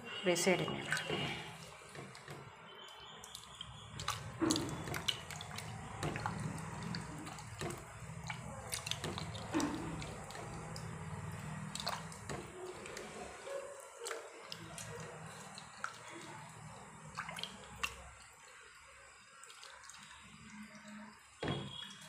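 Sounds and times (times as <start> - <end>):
water sloshing in a metal bowl: 0.0 - 22.0.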